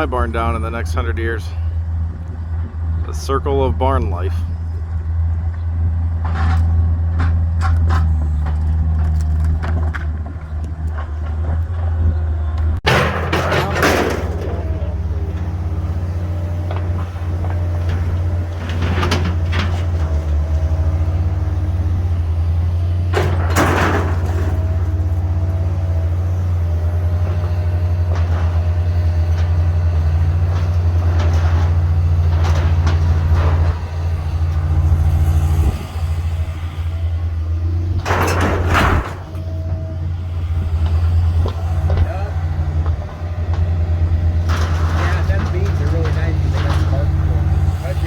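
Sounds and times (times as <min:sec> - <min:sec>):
large engine running: 0:00.0 - 0:48.0
knocks and clatters: 0:06.2 - 0:35.8, 0:37.5 - 0:48.0.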